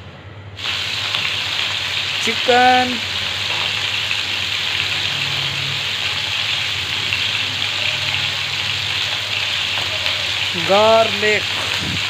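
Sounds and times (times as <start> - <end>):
chicken sizzling in hot oil: 0.6 - 12.0.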